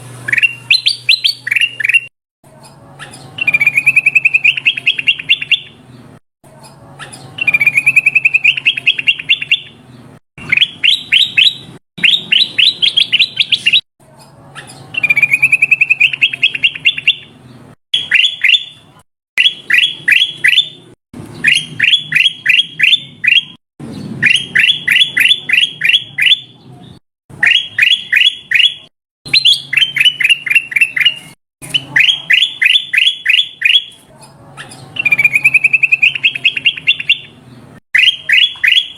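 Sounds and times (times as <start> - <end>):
bird chirping: 0.2 - 38.9.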